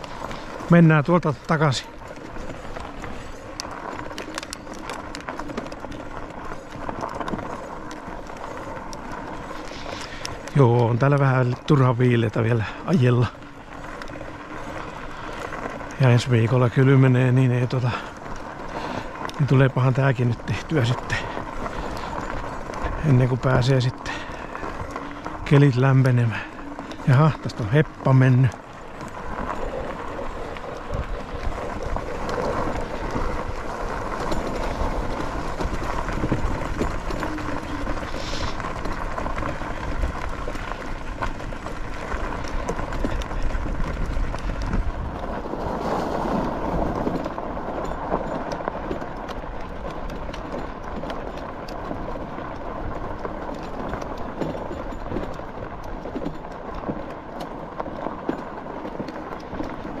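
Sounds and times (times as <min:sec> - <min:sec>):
constant rushing noise: 0:00.0 - 1:00.0
small engine running: 0:00.0 - 1:00.0.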